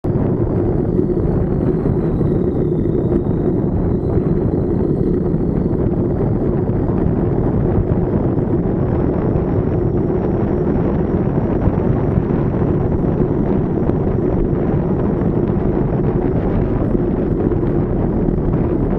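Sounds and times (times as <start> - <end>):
faint steady hum: 0.0 - 18.9
wind buffeting microphone: 0.0 - 18.9.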